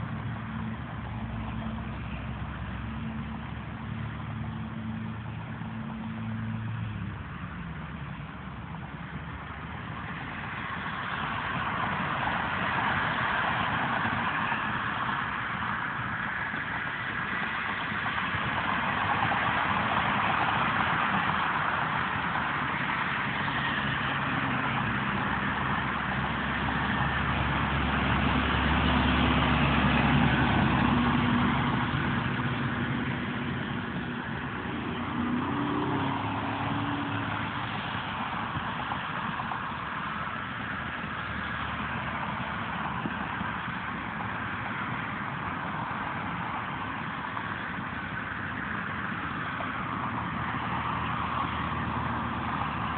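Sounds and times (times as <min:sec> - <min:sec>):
engine noise: 0:00.0 - 0:52.9
heavy engine low rumble: 0:00.0 - 0:52.9
tyres hissing on wet road: 0:00.0 - 0:52.9.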